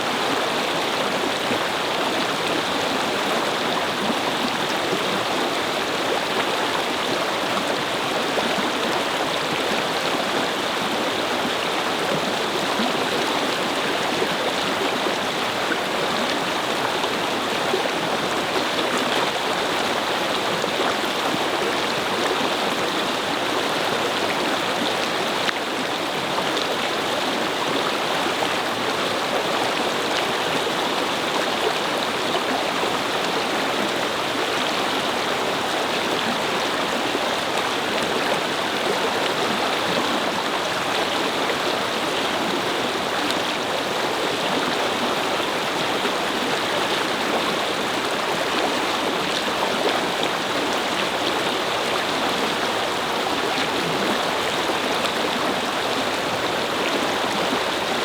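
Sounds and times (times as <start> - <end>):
brook flowing over stones: 0.0 - 58.0.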